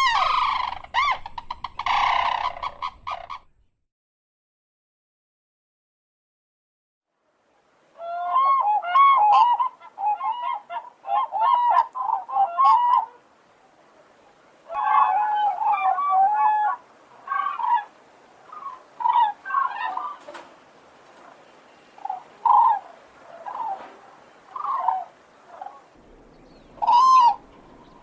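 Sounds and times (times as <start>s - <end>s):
cranes trumpeting: 0.0s - 3.4s, 8.0s - 28.0s.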